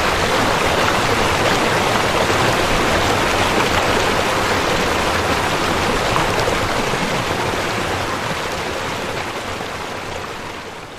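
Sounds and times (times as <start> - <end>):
river water rushing: 0.0 - 10.9.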